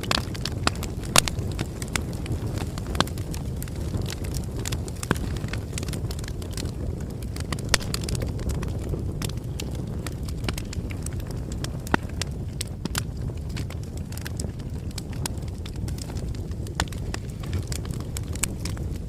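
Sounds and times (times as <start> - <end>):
bonfire crackling: 0.0 - 19.0
fire popping and snapping: 0.0 - 19.0.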